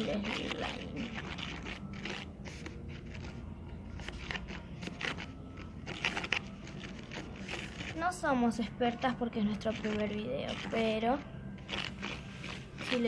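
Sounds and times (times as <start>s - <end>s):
paintbrush scraping wet slime mixture: 0.0s - 13.0s.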